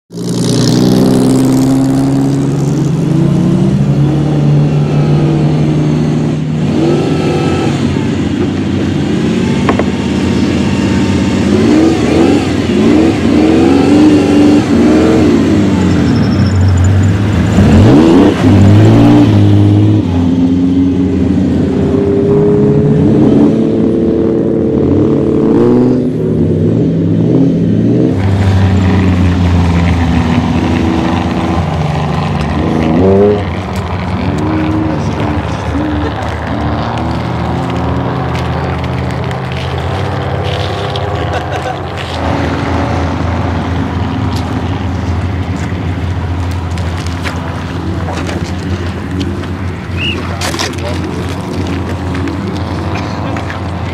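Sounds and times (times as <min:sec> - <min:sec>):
race car engine revving: 0:00.1 - 0:53.9.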